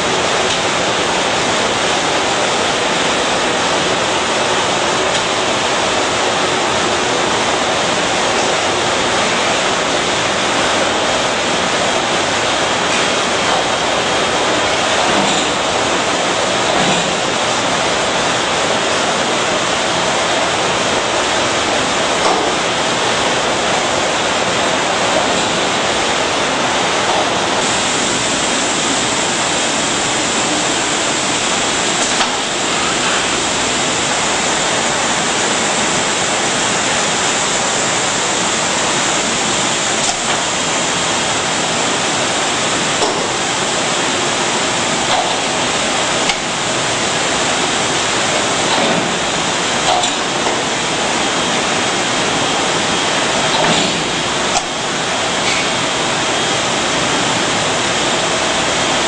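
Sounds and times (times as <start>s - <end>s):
machinery and conveyors running: 0.0s - 59.0s.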